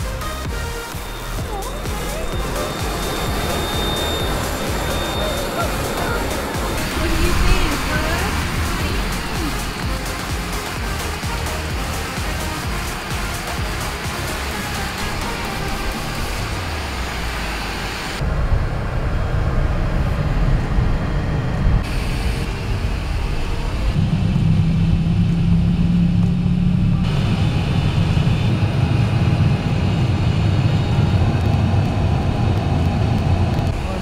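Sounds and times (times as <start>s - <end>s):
jet cabin rumble: 0.5s - 10.7s, 12.0s - 34.0s.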